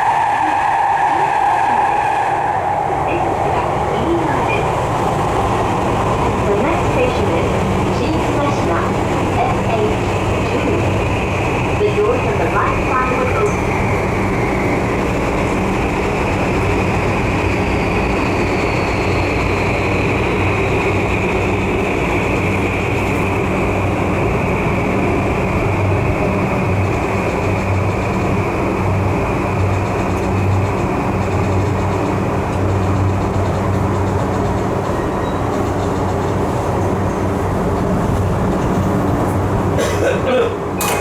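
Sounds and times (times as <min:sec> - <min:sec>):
electric train running: 0:00.0 - 0:41.0.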